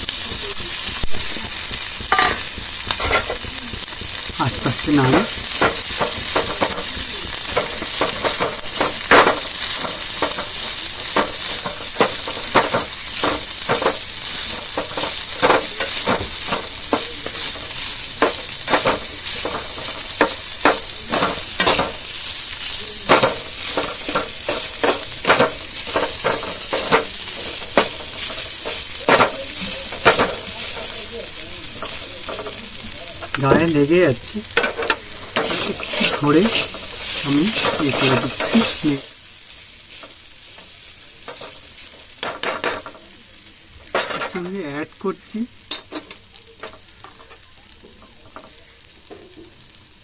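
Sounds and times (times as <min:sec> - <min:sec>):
oil sizzling: 0:00.0 - 0:50.0.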